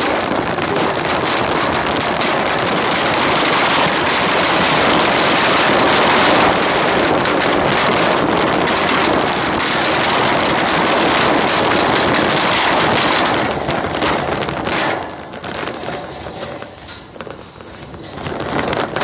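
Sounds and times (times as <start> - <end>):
shopping cart rattling on asphalt: 0.0 - 19.0.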